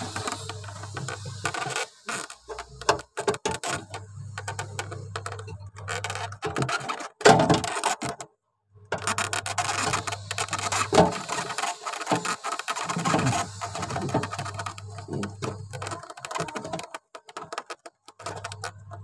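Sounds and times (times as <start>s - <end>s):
hands rubbing and scraping plastic: 0.0s - 8.3s, 8.9s - 19.0s.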